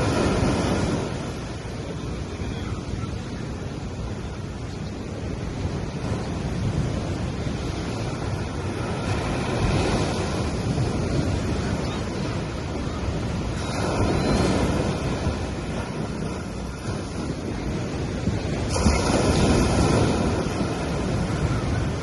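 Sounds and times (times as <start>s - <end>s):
sea waves breaking on beach: 0.0s - 22.0s.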